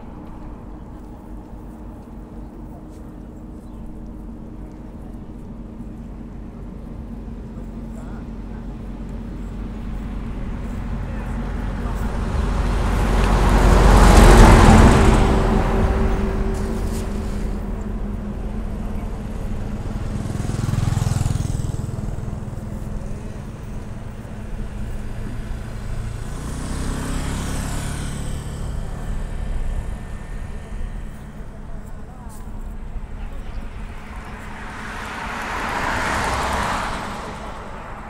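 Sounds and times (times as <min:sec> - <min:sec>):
motor vehicles passing: 0:00.0 - 0:38.0.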